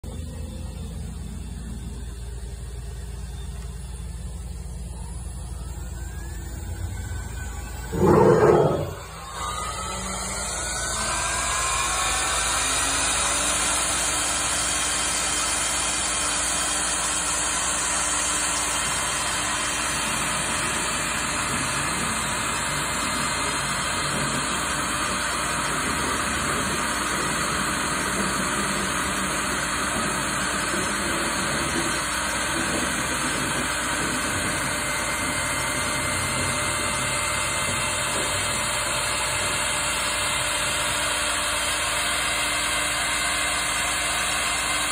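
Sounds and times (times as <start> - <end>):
router spindle whining: 0.0 - 44.9.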